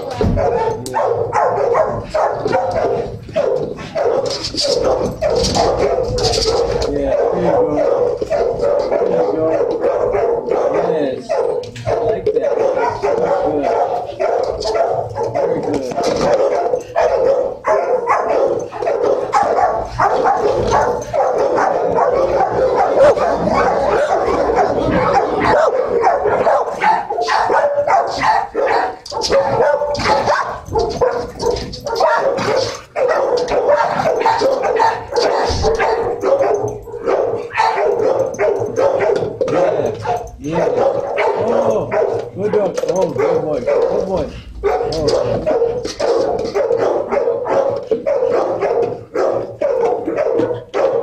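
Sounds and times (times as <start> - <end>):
dogs barking: 0.0 - 51.0.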